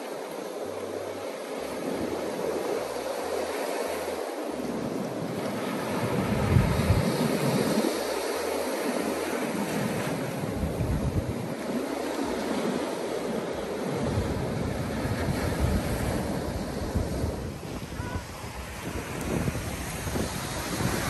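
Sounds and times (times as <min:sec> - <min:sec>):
waves breaking over rocks: 0:00.0 - 0:21.0
wind rumbling on microphone: 0:00.6 - 0:21.0.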